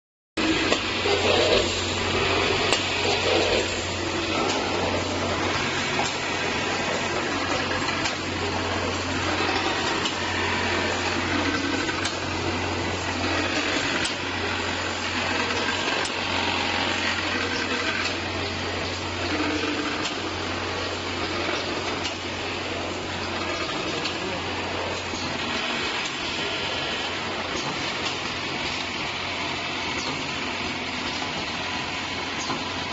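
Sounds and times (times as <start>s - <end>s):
machinery humming: 0.4s - 32.9s.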